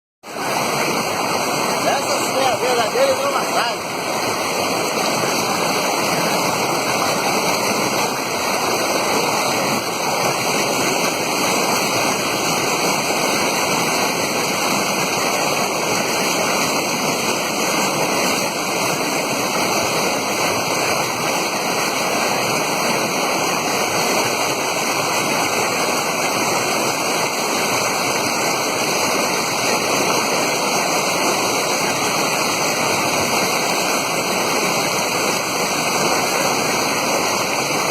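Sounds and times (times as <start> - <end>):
water pouring and churning: 0.2 - 37.9.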